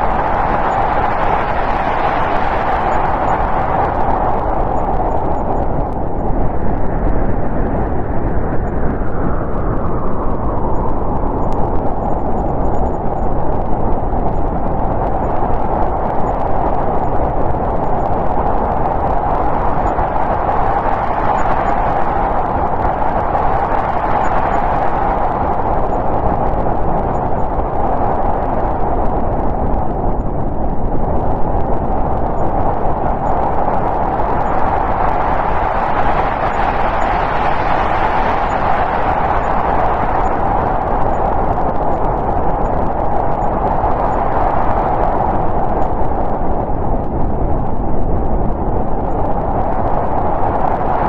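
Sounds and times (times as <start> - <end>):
snowstorm wind blowing: 0.0 - 51.0.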